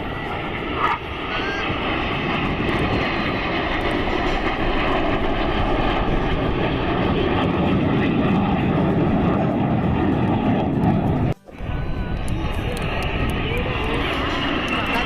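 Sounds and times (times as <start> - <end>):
jet engines flying over: 0.0 - 15.0.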